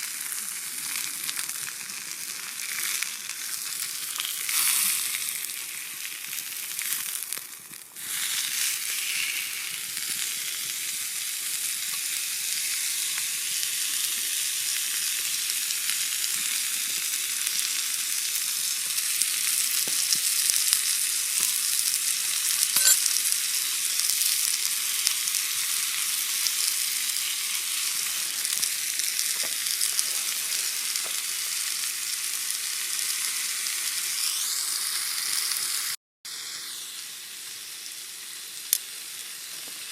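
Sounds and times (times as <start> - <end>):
steak sizzling on griddle: 0.0 - 39.9.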